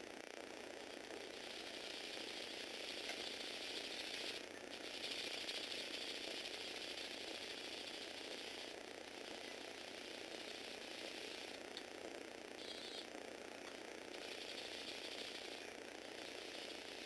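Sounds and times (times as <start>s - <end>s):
toy motor and plastic gears rattling: 0.8s - 13.1s, 13.8s - 17.0s.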